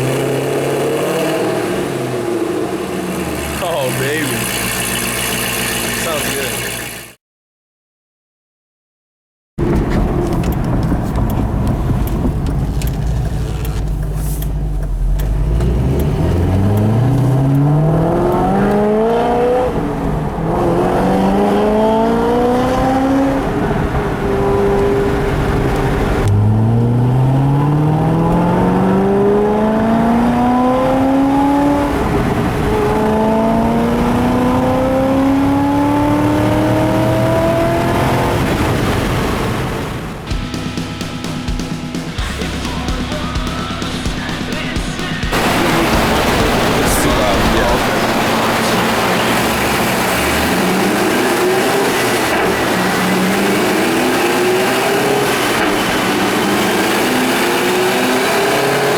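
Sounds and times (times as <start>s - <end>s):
car engine accelerating hard: 0.0s - 7.2s, 9.6s - 58.9s.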